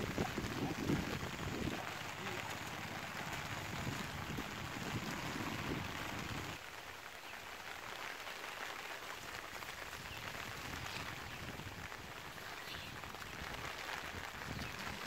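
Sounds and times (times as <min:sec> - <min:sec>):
steady rain on plants: 0:00.0 - 0:15.0.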